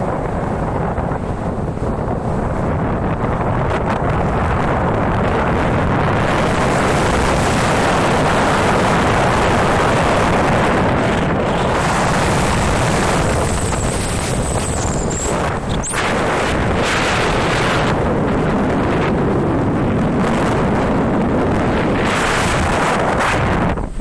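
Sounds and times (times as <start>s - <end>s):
strong wind on microphone: 0.0s - 24.0s.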